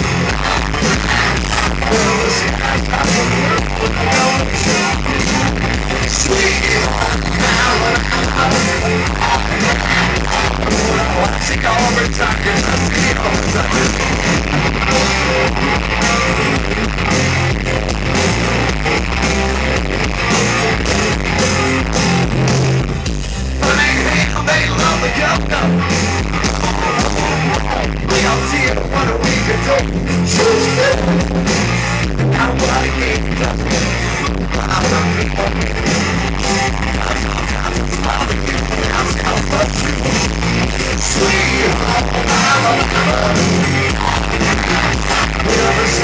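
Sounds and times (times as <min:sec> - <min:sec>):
person singing: 0:00.0 - 0:16.9, 0:23.6 - 0:31.5, 0:32.2 - 0:46.0
electric guitar: 0:00.0 - 0:46.0
steady drum beat: 0:00.0 - 0:46.0.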